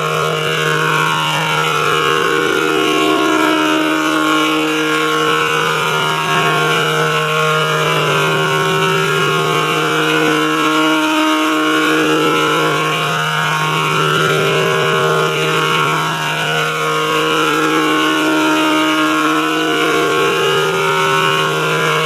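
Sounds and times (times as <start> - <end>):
low tonal drone: 0.0 - 22.0.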